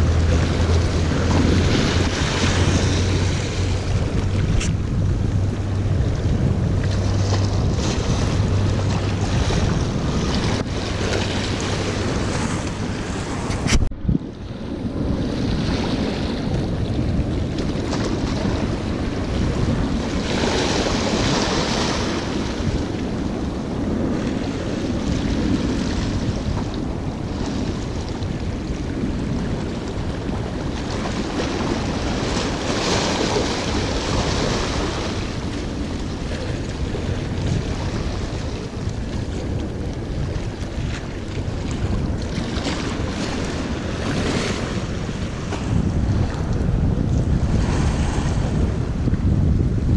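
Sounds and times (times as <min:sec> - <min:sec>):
waves washing against rocks: 0:00.0 - 0:49.9
wind buffeting microphone: 0:00.0 - 0:49.9.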